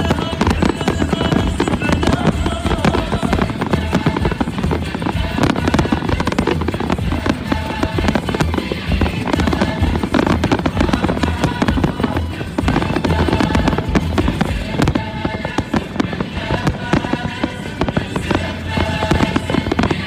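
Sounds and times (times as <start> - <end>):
fireworks bangs and crackles: 0.0 - 20.0
loud music: 0.0 - 20.0.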